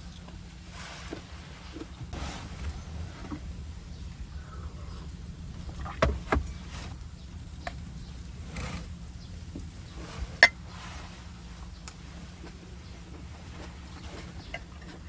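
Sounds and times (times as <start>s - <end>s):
steady low background: 0.0s - 14.5s.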